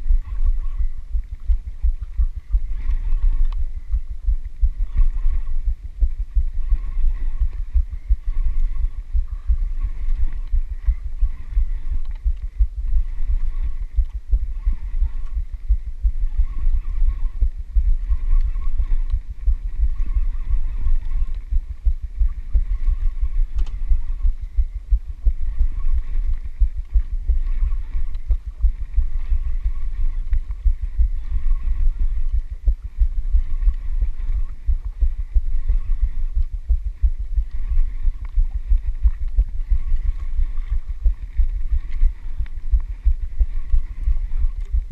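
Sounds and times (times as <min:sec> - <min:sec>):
faint higher hum: 0:00.0 - 0:44.9
wind buffeting microphone: 0:00.0 - 0:44.9.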